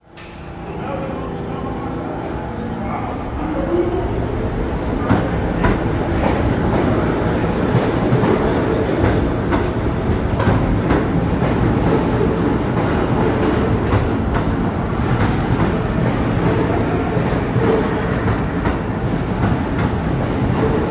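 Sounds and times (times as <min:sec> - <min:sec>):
subway train rumble: 0:00.0 - 0:20.9.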